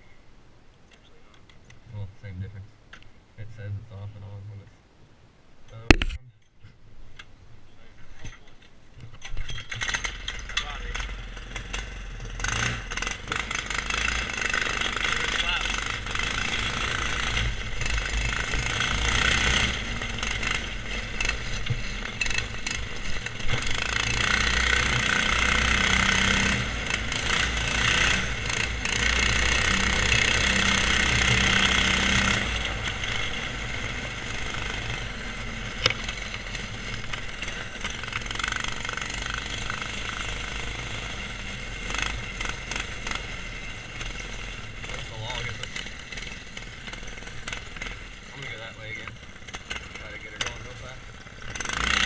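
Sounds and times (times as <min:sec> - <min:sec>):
go-kart engine running: 0:09.5 - 0:52.0.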